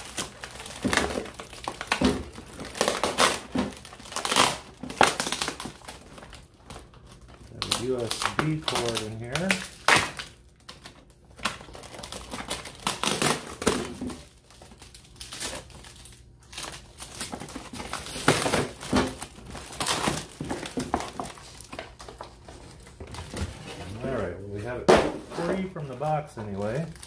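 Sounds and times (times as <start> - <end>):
packaging crinkling and rustling: 0.0 - 27.0.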